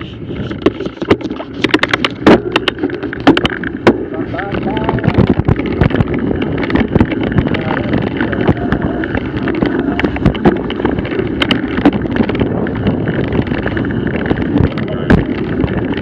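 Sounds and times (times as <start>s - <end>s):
bike knocking and rattling: 0.0s - 16.0s
bike tyres rolling on dirt: 0.0s - 16.0s
wind on microphone: 0.0s - 16.0s.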